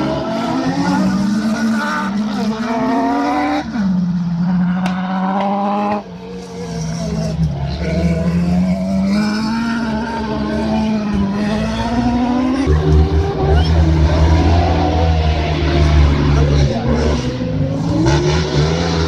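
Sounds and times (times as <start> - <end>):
race car engines revving high: 0.0 - 19.0.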